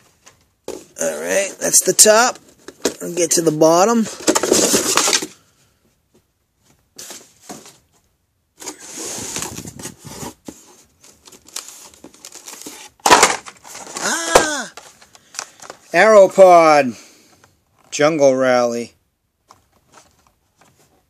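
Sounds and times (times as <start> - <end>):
cardboard and plastic rustling: 0.0 - 5.5, 6.1 - 16.3, 19.4 - 21.0.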